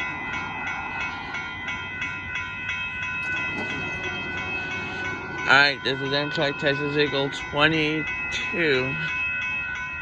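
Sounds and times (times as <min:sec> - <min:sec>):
crossing warning bell ringing: 0:00.0 - 0:10.0.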